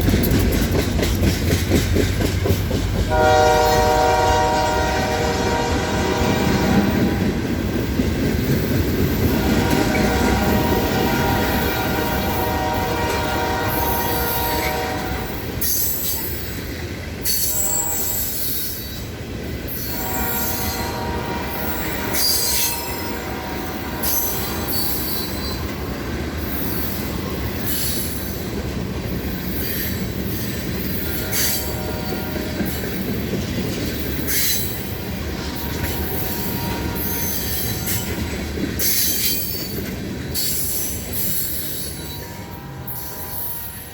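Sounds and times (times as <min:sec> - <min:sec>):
train rumbling past: 0:00.0 - 0:43.9
wheels squealing on rails: 0:00.0 - 0:43.9.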